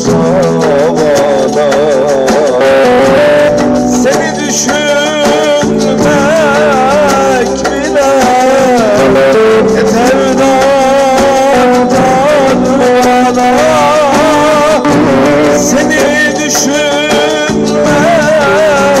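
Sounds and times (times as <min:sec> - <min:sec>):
man singing through microphone: 0:00.0 - 0:19.0
sustained instrumental backing: 0:00.0 - 0:19.0.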